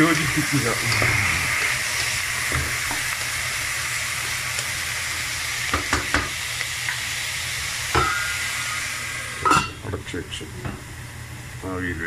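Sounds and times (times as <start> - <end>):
food sizzling in oil: 0.0 - 11.9.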